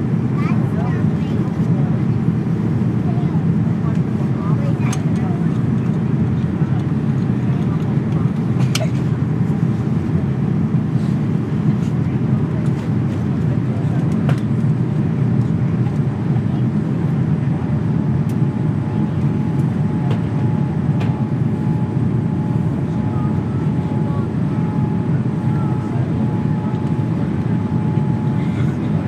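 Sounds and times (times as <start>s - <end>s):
jet engines and airflow roar: 0.0s - 29.0s.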